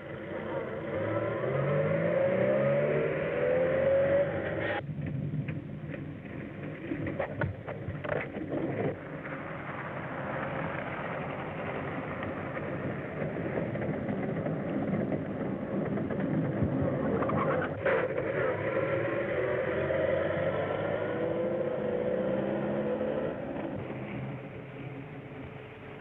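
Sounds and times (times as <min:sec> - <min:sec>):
car engine revving: 0:00.0 - 0:04.8, 0:08.9 - 0:26.0
car rumbling over rough ground: 0:00.0 - 0:26.0.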